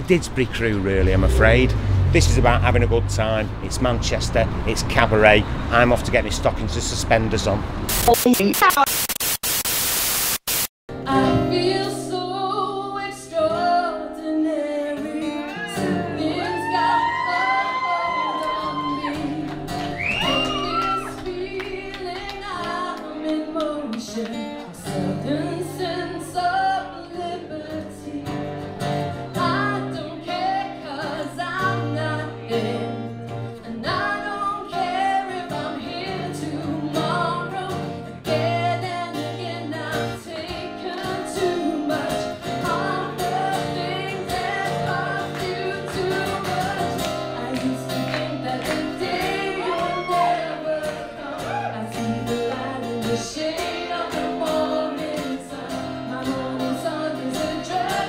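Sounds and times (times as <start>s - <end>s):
guitar: 10.9s - 58.0s
woman singing: 11.0s - 58.0s.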